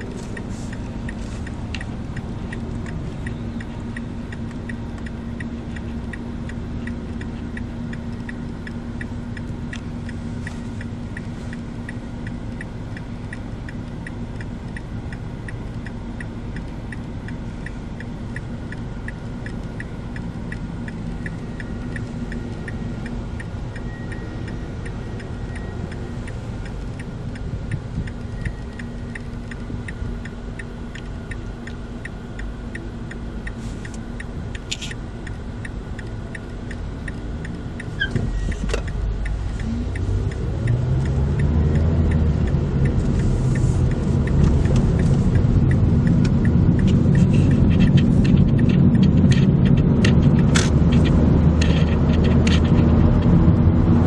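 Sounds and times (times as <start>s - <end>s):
car road and engine rumble: 0.0s - 54.0s
steady ticking: 0.0s - 54.0s.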